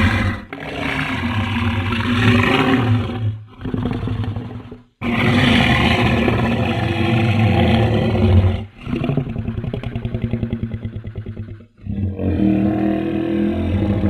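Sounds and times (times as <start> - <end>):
monster roars: 0.0 - 14.0.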